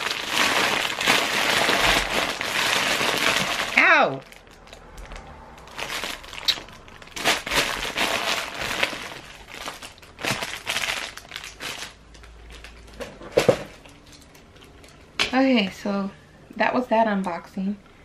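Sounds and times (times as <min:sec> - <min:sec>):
plastic bag crinkling: 0:00.0 - 0:15.2.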